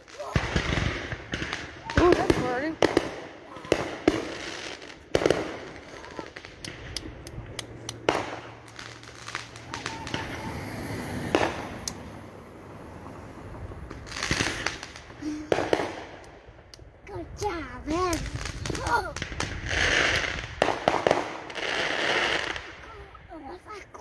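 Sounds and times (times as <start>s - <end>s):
fireworks crackling pops: 0.0s - 12.6s, 13.2s - 24.0s
fireworks banging: 0.0s - 24.0s.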